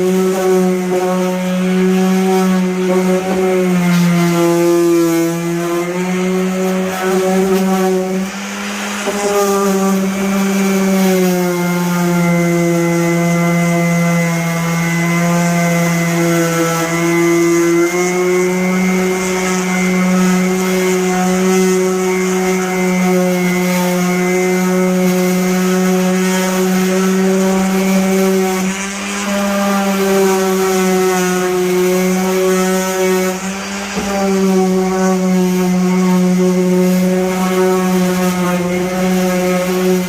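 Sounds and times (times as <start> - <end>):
power sander humming: 0.0 - 40.0.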